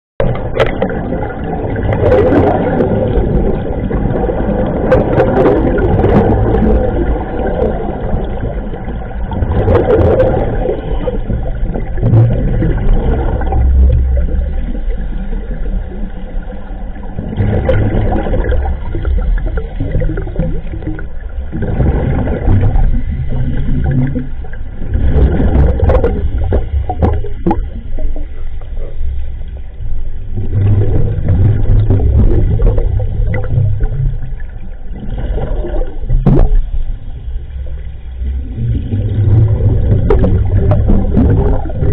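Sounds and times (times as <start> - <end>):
exhaled air bubbling: 0.2 - 41.9
low rumble: 0.2 - 41.9.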